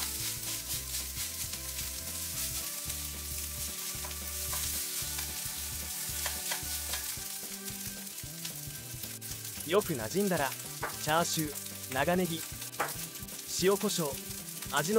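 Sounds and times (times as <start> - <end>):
rice and egg sizzling in oil: 0.0 - 14.9.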